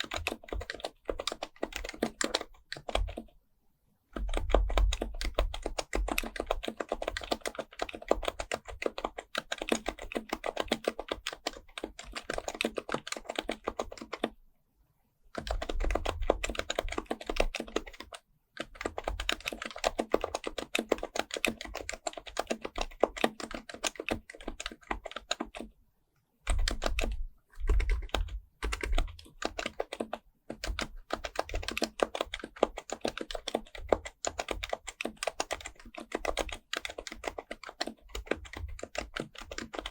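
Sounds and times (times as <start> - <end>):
fast keyboard typing: 0.0 - 3.4, 4.2 - 14.4, 15.4 - 25.7, 26.5 - 39.9.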